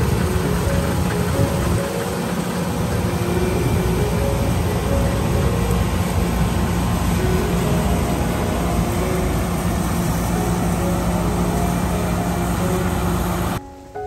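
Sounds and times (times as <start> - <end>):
combine harvester running: 0.0 - 13.6.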